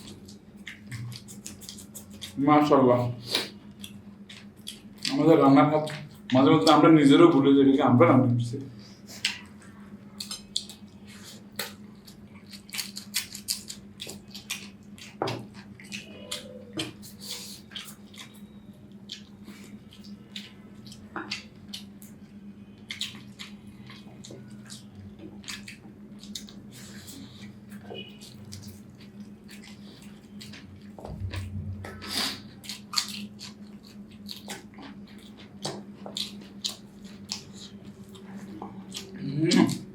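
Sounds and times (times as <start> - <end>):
wet chewing and smacking: 0.0 - 7.5, 9.0 - 39.9
steady low hum: 0.0 - 39.9.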